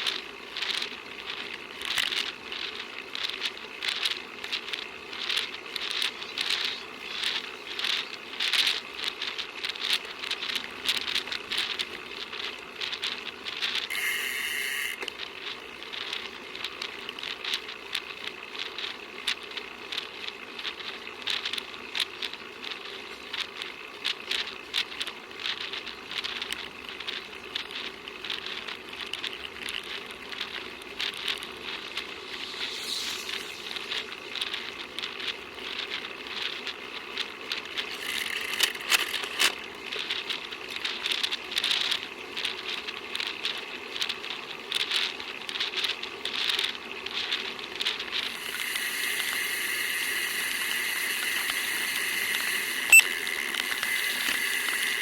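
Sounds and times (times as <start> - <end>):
bicycle rattling and clicking: 0.0 - 55.0.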